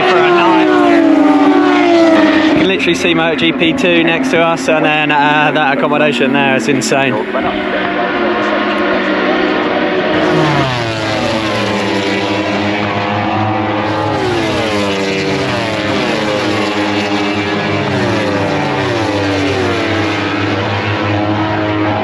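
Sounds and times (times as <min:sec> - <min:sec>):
racing motorcycle engines downshifting: 0:00.0 - 0:22.0.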